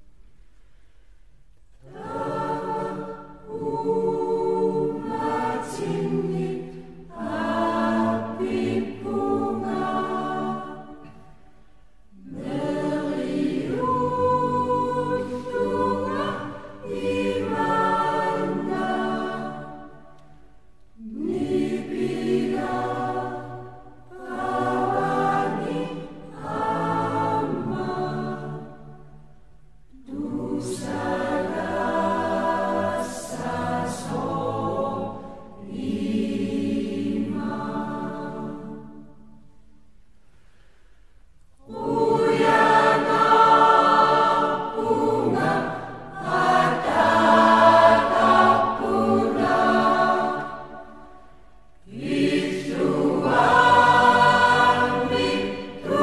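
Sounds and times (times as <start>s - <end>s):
choir singing: 1.6s - 39.9s, 41.6s - 56.0s.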